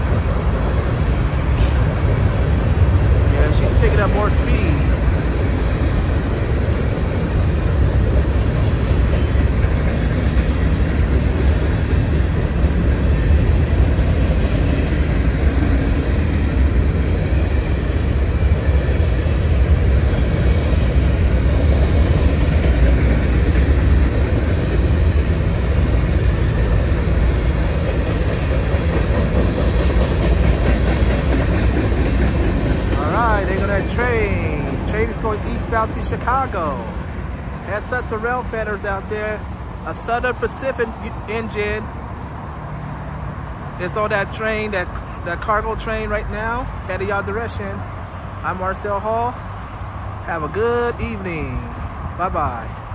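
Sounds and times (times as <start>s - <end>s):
freight train wheels rumbling: 0.0s - 52.9s.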